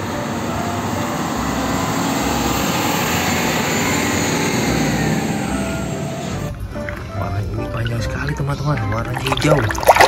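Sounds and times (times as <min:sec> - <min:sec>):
tanker trucks driving past: 0:00.0 - 0:09.0
road noise: 0:00.0 - 0:10.0.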